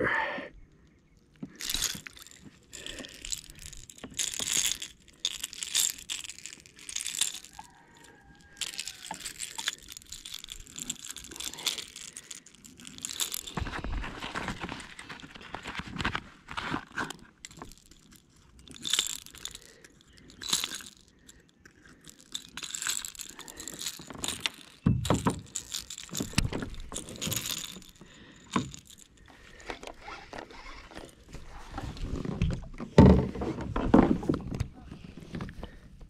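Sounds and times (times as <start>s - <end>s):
fishing tackle clicking and rattling: 1.2s - 33.2s.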